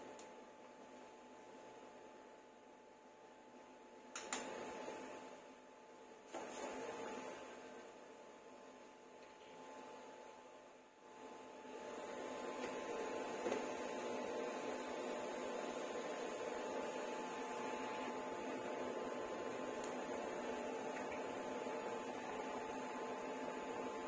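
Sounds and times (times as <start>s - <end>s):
faint steady hum: 0.0s - 24.0s
pot boiling with bubbling hiss: 0.0s - 24.0s.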